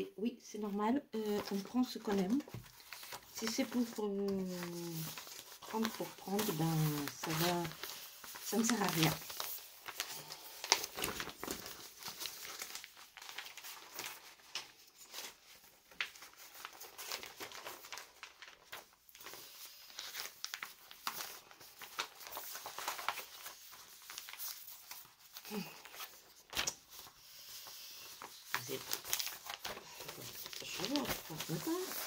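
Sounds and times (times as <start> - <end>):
packaging crinkling and rustling: 1.3 - 32.0.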